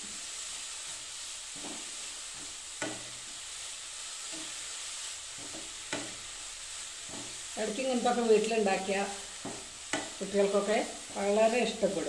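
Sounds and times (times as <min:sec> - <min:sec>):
carrot sizzling in a pan: 0:00.0 - 0:12.0
spatula scraping a pan: 0:00.1 - 0:08.2, 0:09.0 - 0:11.8.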